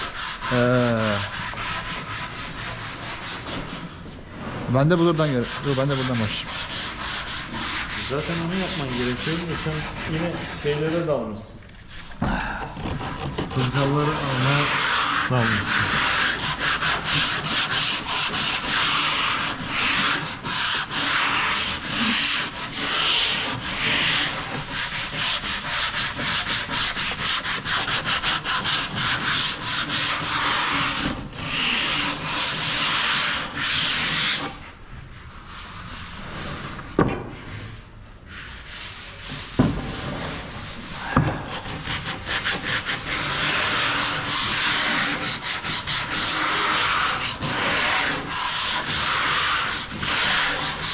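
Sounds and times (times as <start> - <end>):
hand sanding wood: 0.0 - 50.9.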